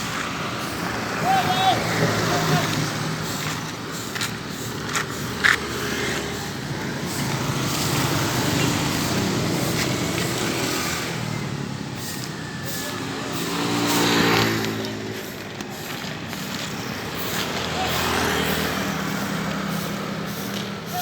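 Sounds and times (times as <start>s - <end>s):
motor vehicles passing: 0.0s - 21.0s.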